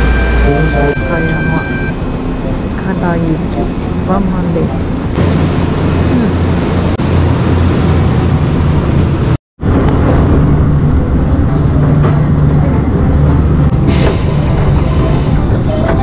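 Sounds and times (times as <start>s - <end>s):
electric train humming: 0.0s - 16.0s
train running noise inside carriage: 0.0s - 16.0s.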